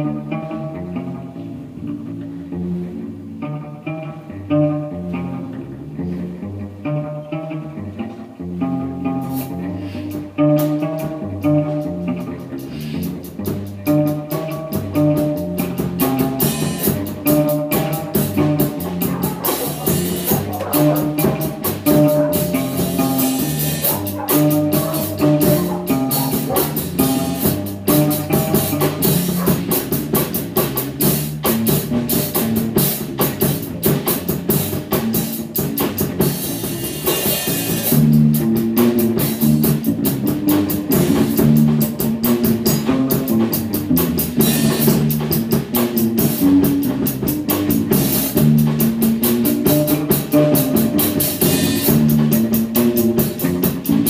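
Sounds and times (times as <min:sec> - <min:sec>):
electric bass guitar: 0:00.0 - 0:54.0
drum kit playing: 0:09.2 - 0:54.0.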